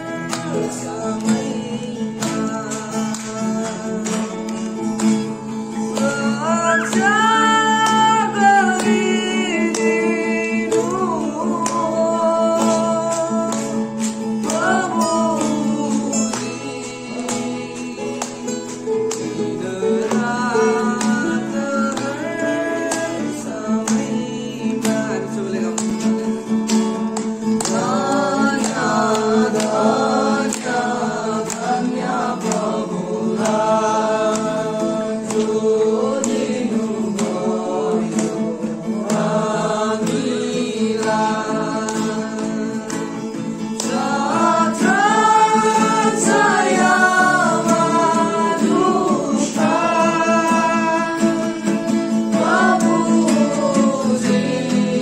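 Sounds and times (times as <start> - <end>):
acoustic guitar strumming: 0.0 - 55.0
several voices singing: 0.0 - 55.0.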